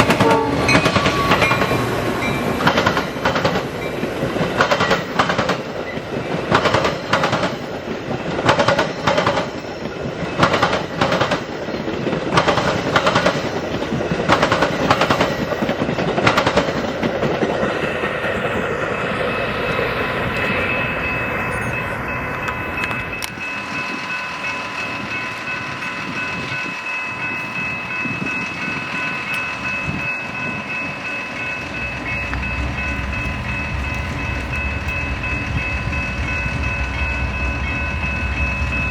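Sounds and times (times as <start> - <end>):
train wheels clacking: 0.0 - 38.9.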